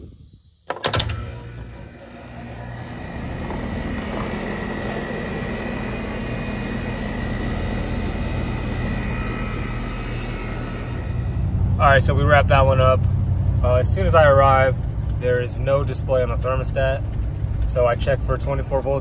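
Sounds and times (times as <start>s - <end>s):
air conditioner humming: 0.8s - 19.0s.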